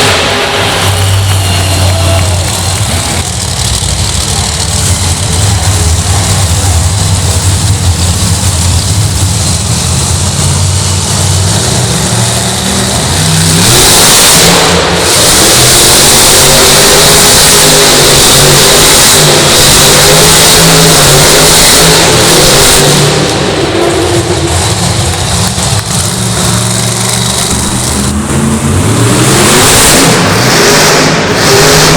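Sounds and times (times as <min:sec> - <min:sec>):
monster truck engine revving: 0:00.0 - 0:31.9.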